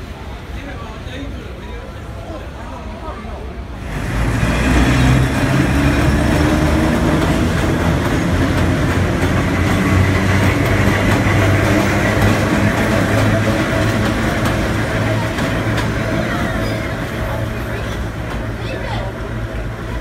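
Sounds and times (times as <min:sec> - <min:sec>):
subway cars rumbling: 0:00.0 - 0:20.0.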